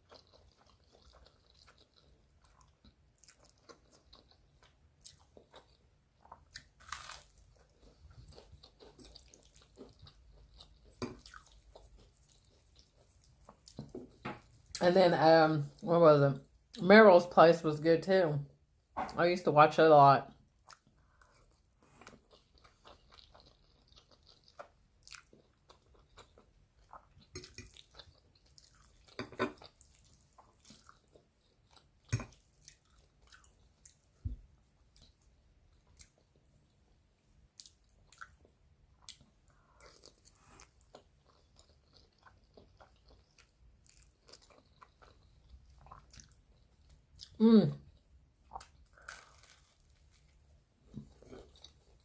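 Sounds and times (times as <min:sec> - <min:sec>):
person chewing: 0:00.0 - 0:14.8, 0:20.5 - 0:52.0.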